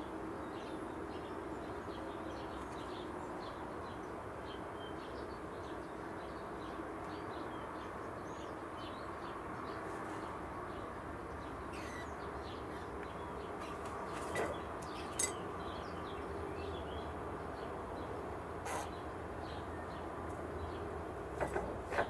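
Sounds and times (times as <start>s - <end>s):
steady outdoor hum: 0.0s - 22.0s
small birds chirping: 0.6s - 22.0s.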